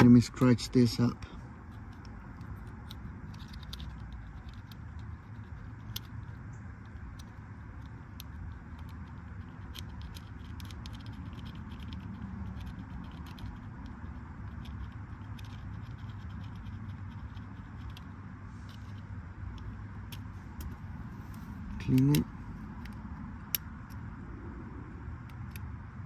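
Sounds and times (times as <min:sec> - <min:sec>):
metal pick scratching contacts: 0:00.0 - 0:24.1
low background rumble: 0:00.0 - 0:26.0.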